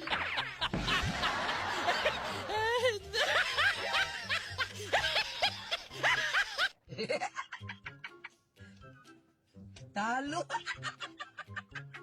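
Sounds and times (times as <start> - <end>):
snickering laughter: 0.0 - 8.3, 10.5 - 12.0.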